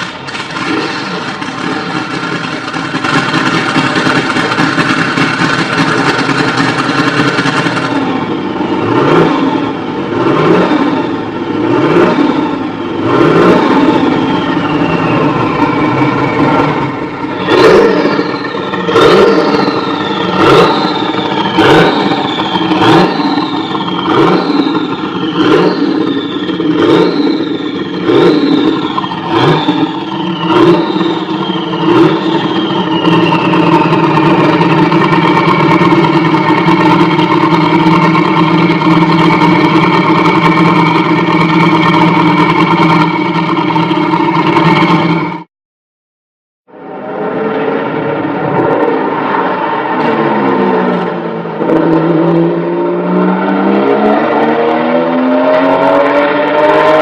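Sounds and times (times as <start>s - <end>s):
race car engine revving: 0.0s - 45.5s, 46.7s - 57.0s.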